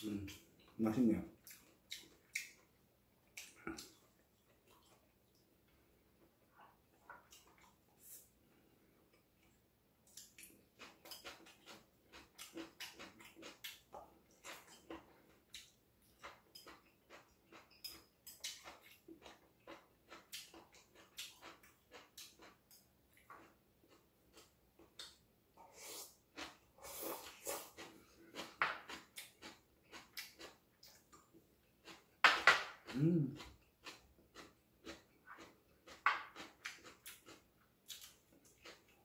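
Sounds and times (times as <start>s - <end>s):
chewing and lip-smacking: 1.4s - 5.5s, 6.2s - 8.3s, 9.1s - 25.2s, 25.8s - 39.0s
eating rice from a bowl: 6.1s - 39.0s.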